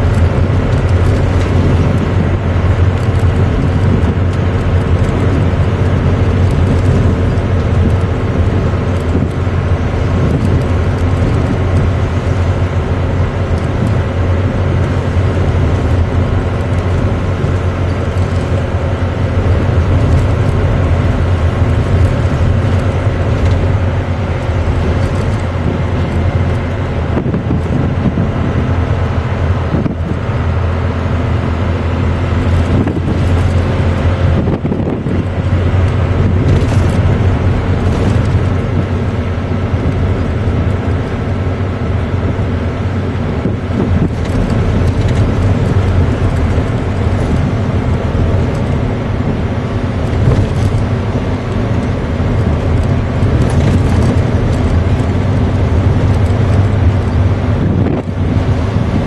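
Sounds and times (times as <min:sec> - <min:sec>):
diesel engine drone: 0:00.0 - 0:59.0
road noise: 0:00.0 - 0:59.0.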